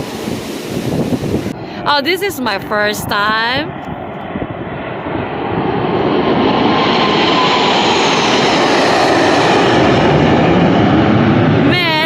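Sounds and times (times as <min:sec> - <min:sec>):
falling jet whine: 0:00.0 - 0:12.0
jet roar: 0:00.0 - 0:12.0.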